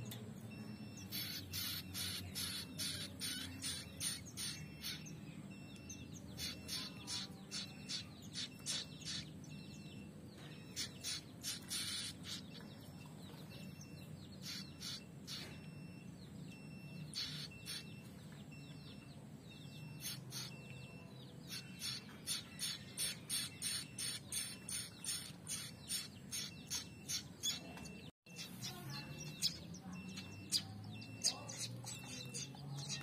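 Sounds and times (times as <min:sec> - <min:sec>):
young birds chirping: 0:00.0 - 0:33.0.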